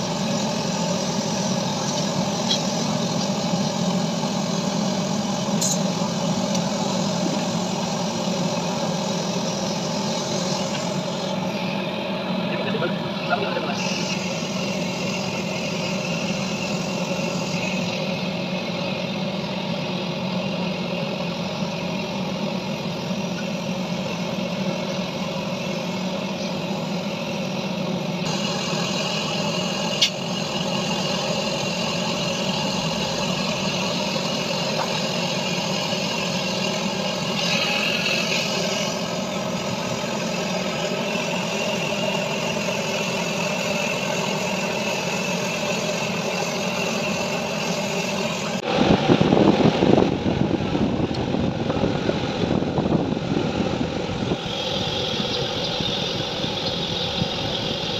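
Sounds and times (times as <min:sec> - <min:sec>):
machine droning: 0:00.0 - 0:57.9.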